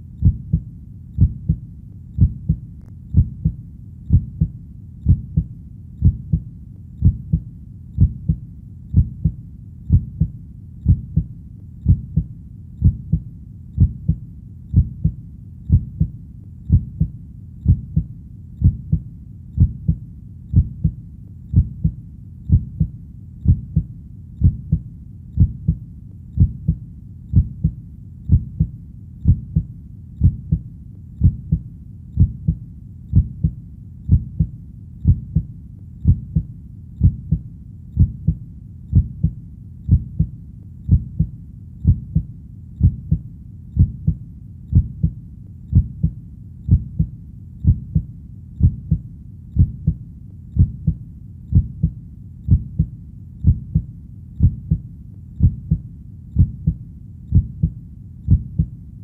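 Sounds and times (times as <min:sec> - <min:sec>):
heartbeat: 0:00.0 - 0:58.8.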